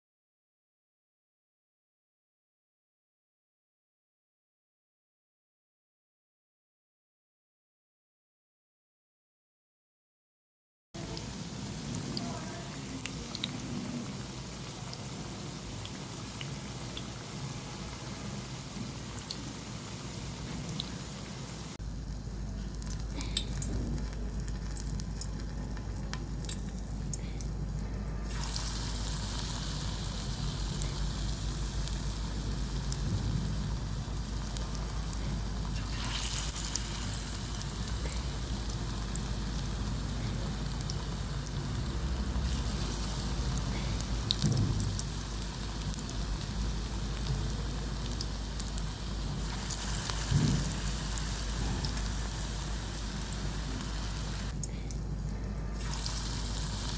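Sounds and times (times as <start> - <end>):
deep-frying in hot oil: 11.0 - 56.9.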